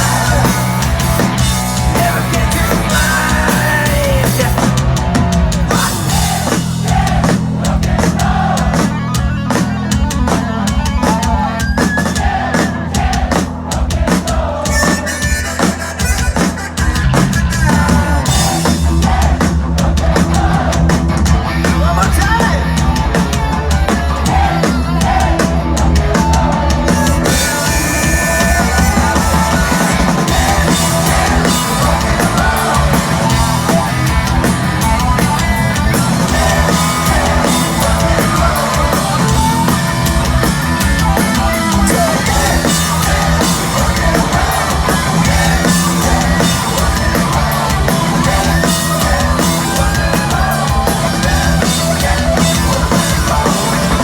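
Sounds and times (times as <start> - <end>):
drum kit beat: 0.0 - 54.0
live rock band: 0.0 - 54.0.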